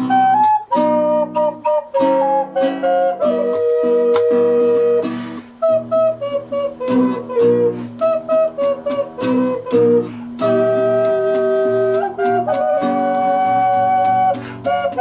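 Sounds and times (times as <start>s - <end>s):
guitar chords: 0.0s - 15.0s
ocarina duet melody: 0.0s - 15.0s.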